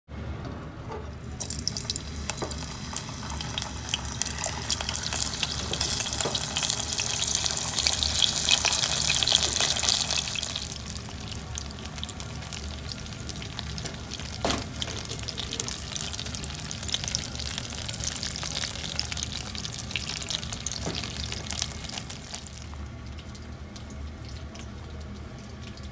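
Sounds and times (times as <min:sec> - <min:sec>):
dumplings sizzling in hot oil: 0:01.4 - 0:24.6.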